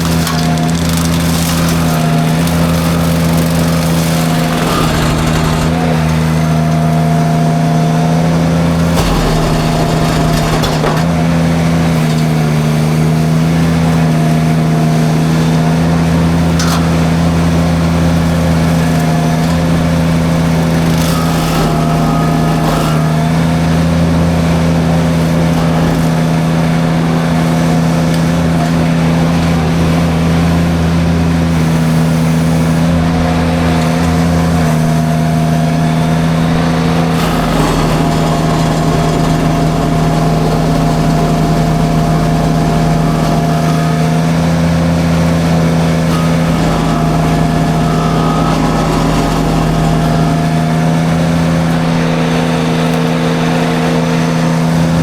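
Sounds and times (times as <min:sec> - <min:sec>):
engine running hard: 0:00.0 - 0:55.0
mulcher cutting through brush: 0:00.0 - 0:55.0.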